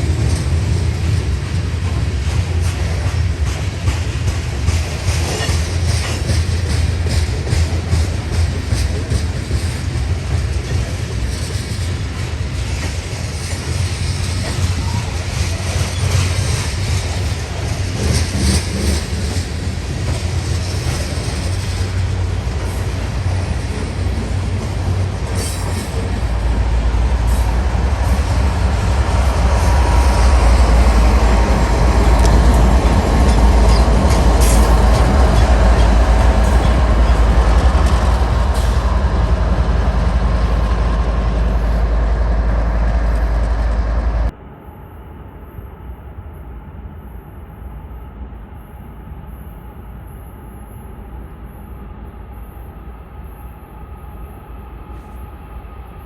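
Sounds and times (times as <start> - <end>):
freight train rumble and rail clatter: 0.0 - 56.0.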